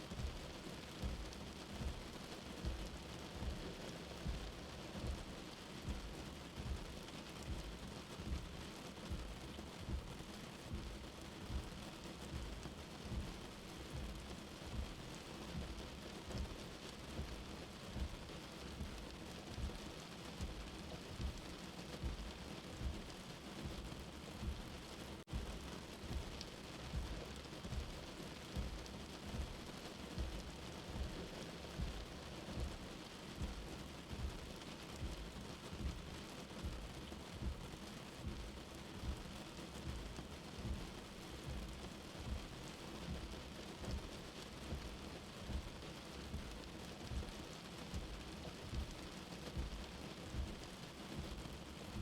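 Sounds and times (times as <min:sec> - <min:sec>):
steady rain: 0:00.0 - 0:52.0
heartbeat thumping: 0:00.1 - 0:52.0.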